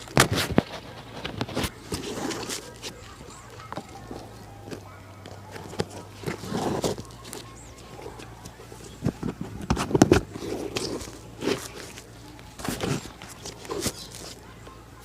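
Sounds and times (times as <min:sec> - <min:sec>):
brushing and tapping on shoe: 0:00.0 - 0:14.4.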